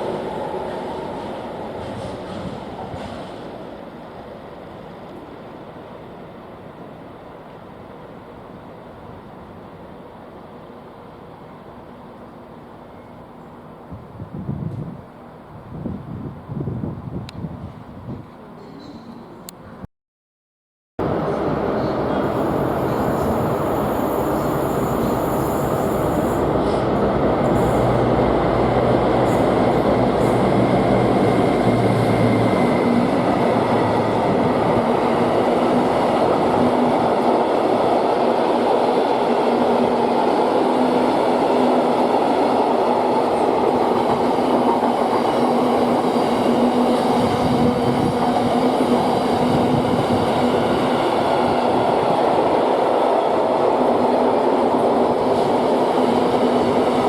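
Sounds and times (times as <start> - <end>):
freight train rumbling past: 0.0 - 18.6, 21.0 - 57.0.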